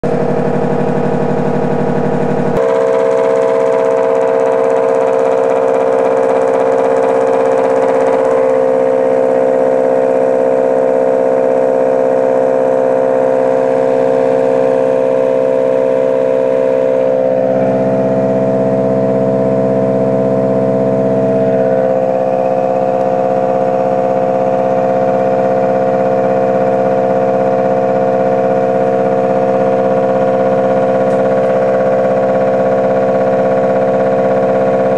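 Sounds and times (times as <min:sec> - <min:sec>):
electrical whine from coils: 0:00.0 - 0:34.9.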